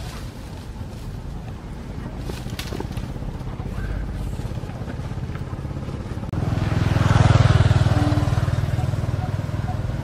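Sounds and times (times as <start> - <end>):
engine running with pulsing hum: 1.3 - 10.0.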